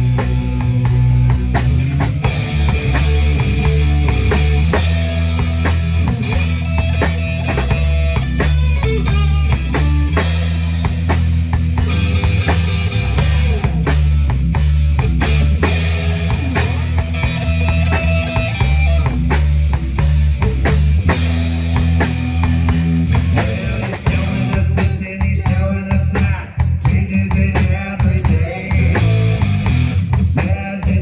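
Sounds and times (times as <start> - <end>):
bass guitar: 0.0 - 31.0
drum kit beat: 0.0 - 31.0
electric guitar: 0.0 - 31.0.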